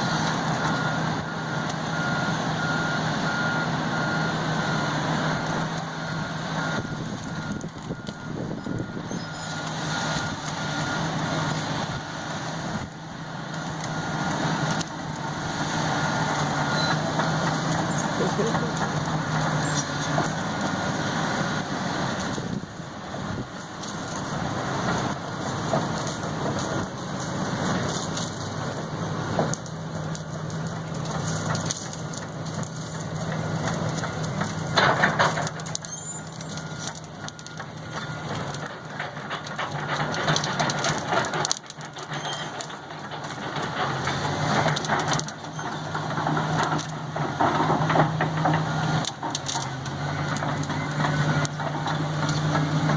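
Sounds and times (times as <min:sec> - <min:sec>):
backhoe engine running: 0:00.0 - 0:52.9
crackling and crunching: 0:00.0 - 0:52.9.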